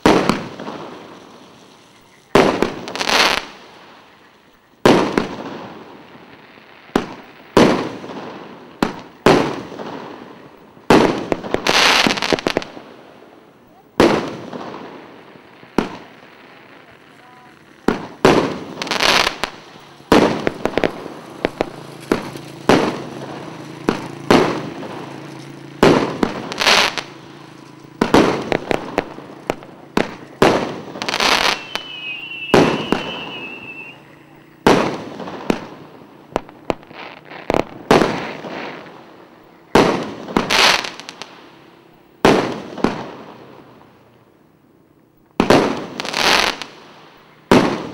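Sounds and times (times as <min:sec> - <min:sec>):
firework bangs: 0:00.0 - 0:44.4, 0:45.2 - 0:47.9.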